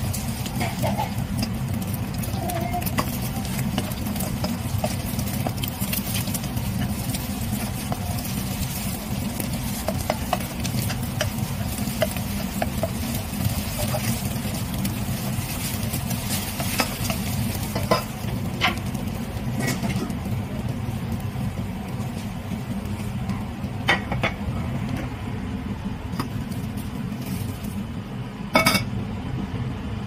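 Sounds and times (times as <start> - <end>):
eggs sizzling in oil: 0.0 - 28.5
steady low hum: 0.0 - 30.0.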